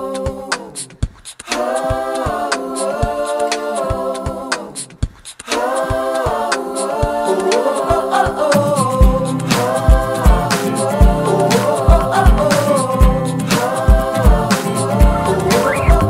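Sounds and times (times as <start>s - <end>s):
voices singing a cappella: 0.0s - 16.0s
steady clicking beat: 0.2s - 16.0s.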